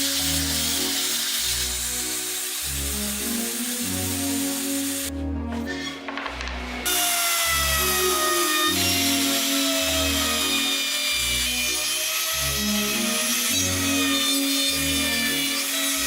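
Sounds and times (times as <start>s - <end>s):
tool cutting wood: 0.0s - 5.0s, 5.6s - 16.0s.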